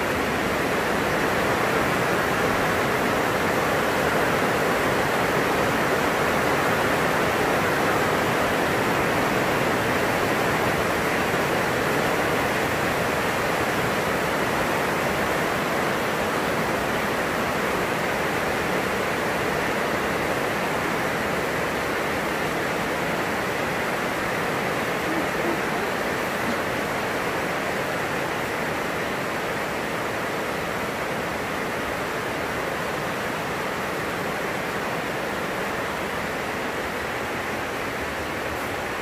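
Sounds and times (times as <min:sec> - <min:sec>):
heavy rain on a plastic roof: 0:00.0 - 0:39.0.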